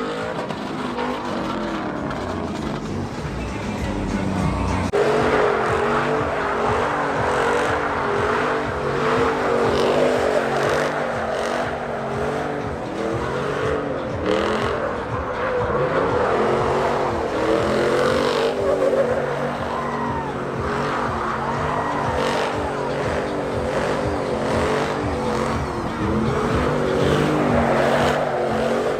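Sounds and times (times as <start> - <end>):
truck engine at high revs: 0.0 - 28.9.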